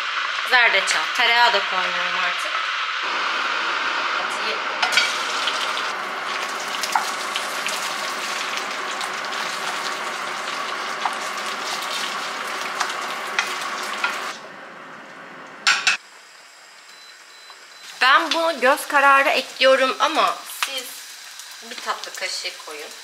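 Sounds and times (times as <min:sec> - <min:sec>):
rice sizzling in oil: 0:00.0 - 0:14.4, 0:16.0 - 0:23.0.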